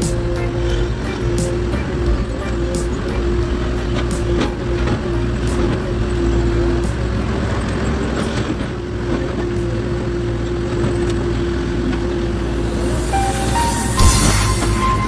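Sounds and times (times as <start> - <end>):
diesel engine and hydraulics: 0.0 - 15.0.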